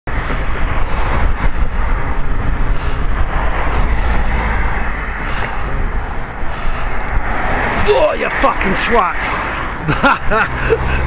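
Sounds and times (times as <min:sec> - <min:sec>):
road and tyre noise: 0:00.0 - 0:11.0
wind buffeting microphone: 0:00.1 - 0:11.0.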